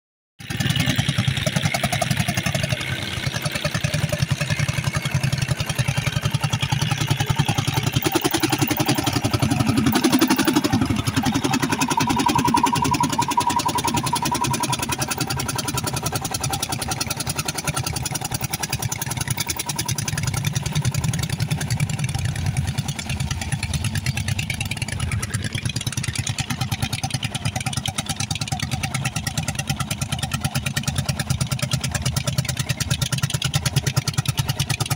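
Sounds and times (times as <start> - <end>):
tractor engine running under load: 0.4 - 34.9.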